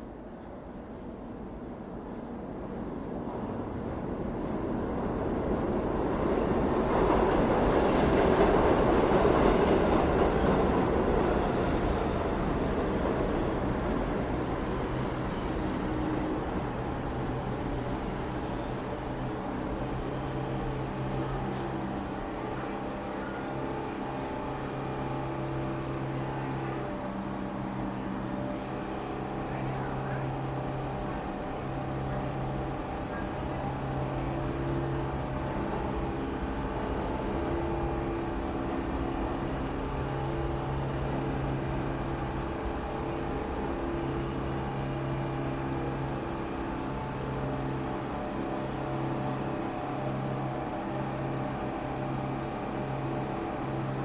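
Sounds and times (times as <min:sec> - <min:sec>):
continuous rumble: 0:07.0 - 0:54.0.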